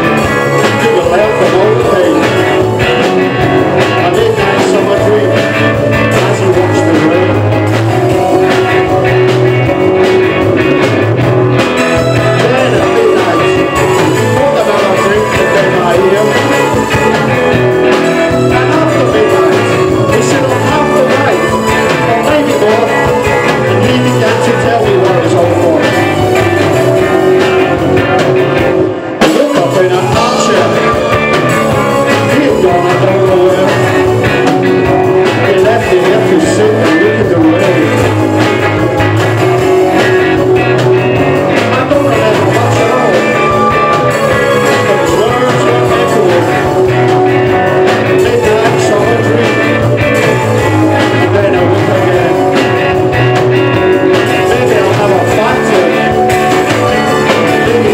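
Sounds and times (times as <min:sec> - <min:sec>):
bass guitar: 0:00.0 - 0:57.9
drum kit: 0:00.0 - 0:57.9
electric guitar: 0:00.0 - 0:57.9.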